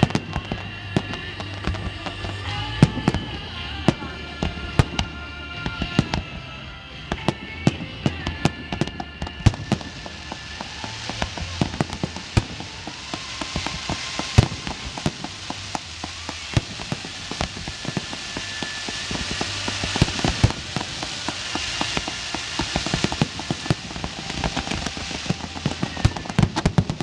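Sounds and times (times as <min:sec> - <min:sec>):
fireworks bangs and pops: 0:00.0 - 0:06.4, 0:07.0 - 0:27.0
hissing crackle: 0:00.0 - 0:06.4, 0:07.2 - 0:27.0
music with sustained tones: 0:00.0 - 0:27.0.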